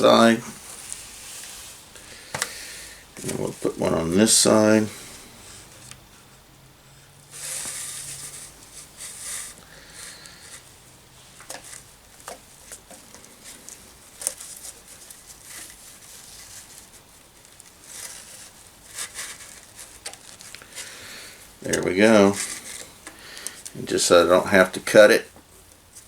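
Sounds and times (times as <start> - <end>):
cord handling rustles: 0.0 - 6.3, 7.2 - 25.1.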